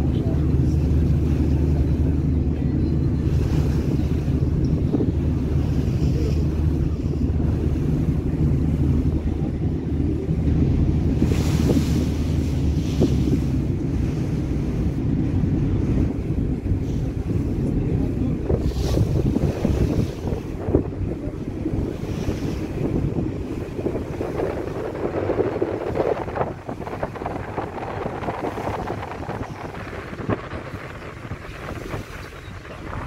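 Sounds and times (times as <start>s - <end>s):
ferry engine rumble: 0.0s - 33.0s
water rushing along hull: 0.0s - 33.0s
wind buffeting microphone: 0.0s - 33.0s.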